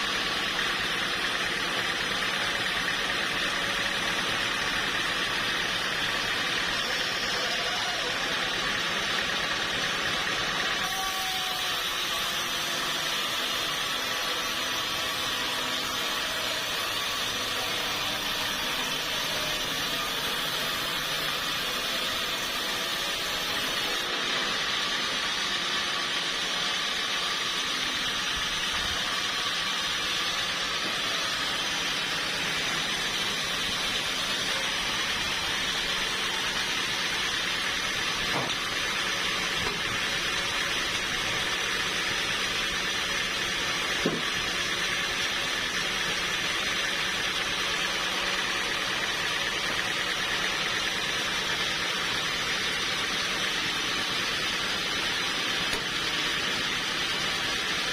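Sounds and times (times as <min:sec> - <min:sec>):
sawmill saw cutting wood: 0:00.0 - 0:57.9.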